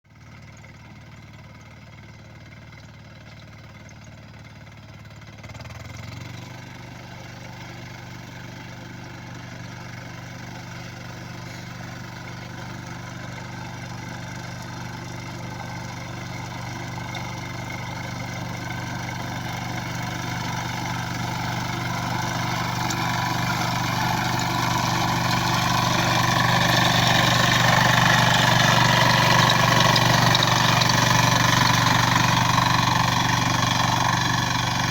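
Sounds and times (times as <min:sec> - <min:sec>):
mower engine running: 0:00.1 - 0:34.9.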